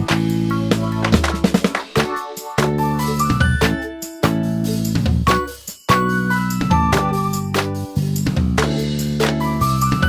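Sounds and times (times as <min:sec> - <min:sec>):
band with bass and chords: 0:00.0 - 0:10.0.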